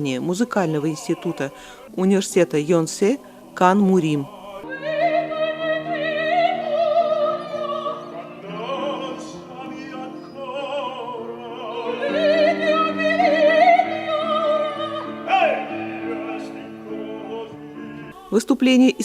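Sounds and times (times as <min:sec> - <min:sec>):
operatic high voice singing: 0:00.0 - 0:02.0, 0:03.9 - 0:19.0
piano accompaniment: 0:00.0 - 0:18.7.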